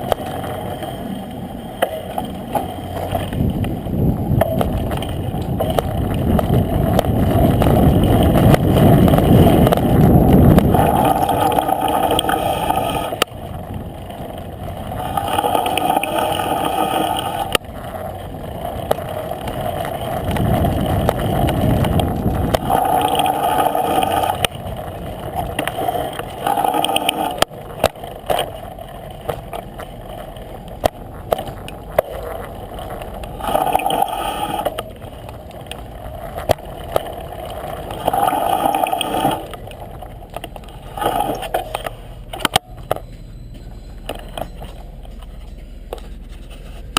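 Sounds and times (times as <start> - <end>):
bicycle rolling and rumbling: 0.0 - 46.9.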